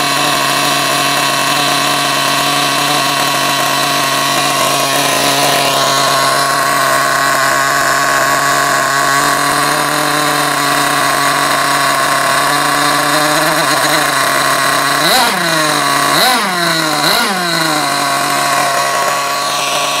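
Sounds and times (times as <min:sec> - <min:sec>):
small nitro engine idling and revving: 0:00.0 - 0:20.0.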